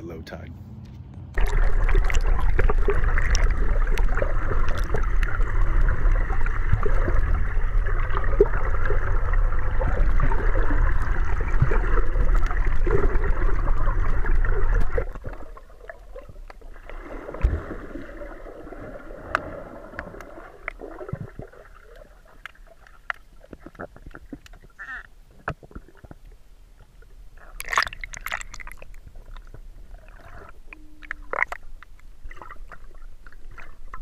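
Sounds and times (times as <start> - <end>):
muffled underwater rushing water: 1.4 - 34.0.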